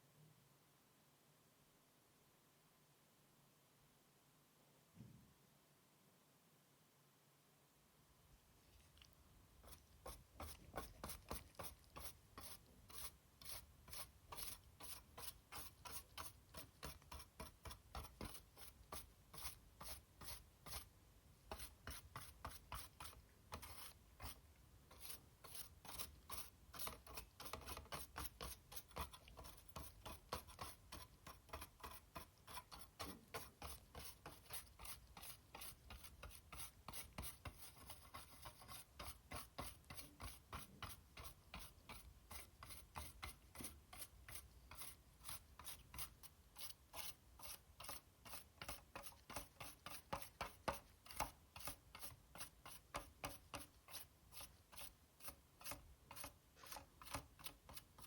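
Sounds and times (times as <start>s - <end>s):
brush scrubbing circuit board: 9.6s - 20.9s, 21.5s - 58.0s.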